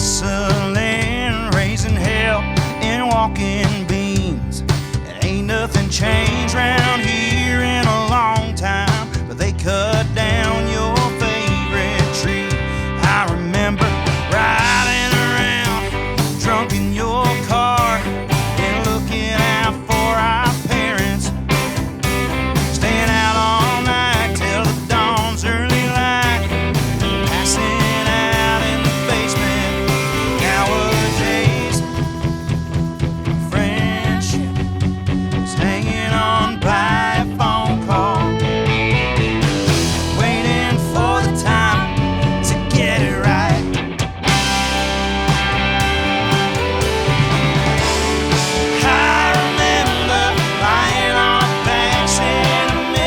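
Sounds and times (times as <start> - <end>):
live country rock band: 0.0 - 53.0
vocal or lead guitar line: 0.0 - 53.0.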